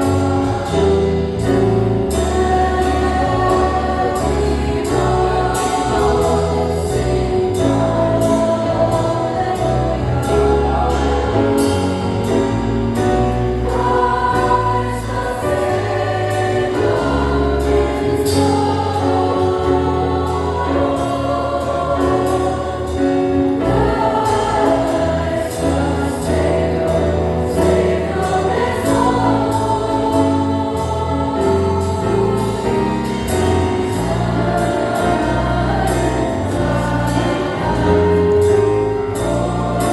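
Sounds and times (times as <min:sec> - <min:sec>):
bass notes: 0:00.0 - 0:39.9
choir singing with band: 0:00.0 - 0:39.9
drum and cymbal beat: 0:00.0 - 0:39.9.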